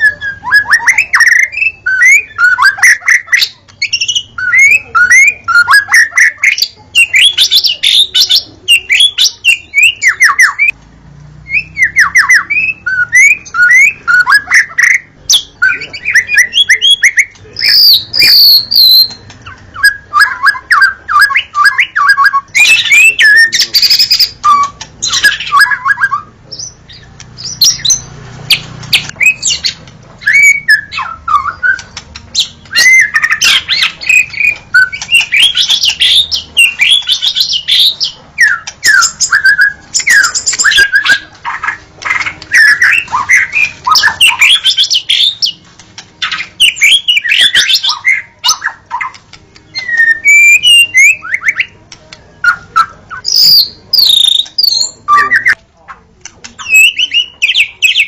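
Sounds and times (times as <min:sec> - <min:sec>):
songbird singing whistled notes: 0:00.0 - 0:10.8, 0:11.4 - 0:45.6, 0:46.2 - 0:55.6, 0:56.4 - 0:58.0.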